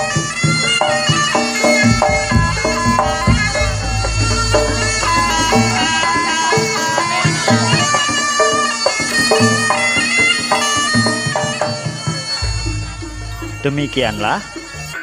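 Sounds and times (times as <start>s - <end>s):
shrill reedy wind instrument: 0.0s - 15.0s
steady drumming: 0.0s - 15.0s.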